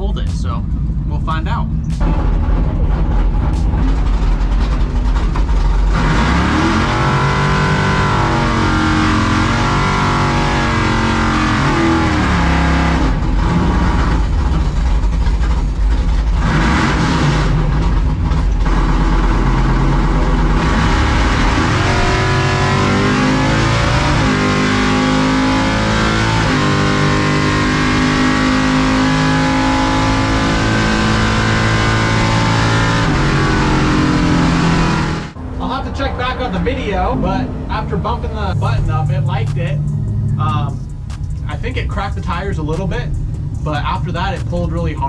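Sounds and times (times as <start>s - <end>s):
truck engine revving: 0.0s - 45.0s.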